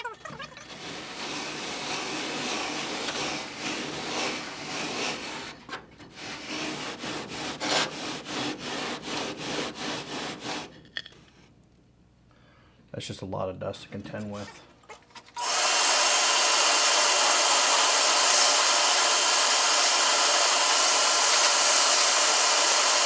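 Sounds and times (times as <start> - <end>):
scraper gouging insulation: 0.0 - 10.8, 14.1 - 23.0.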